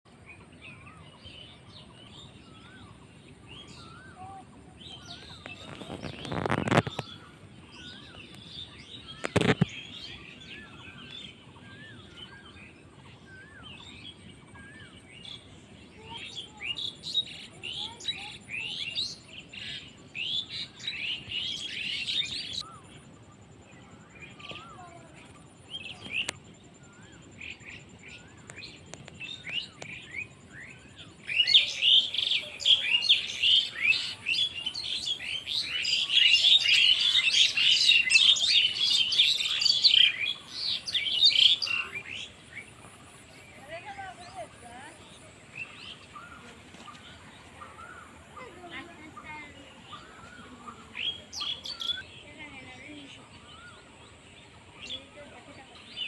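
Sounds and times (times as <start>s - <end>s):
small birds chirping: 0.1s - 56.0s
whistled bird calls: 0.7s - 23.2s, 23.8s - 56.0s.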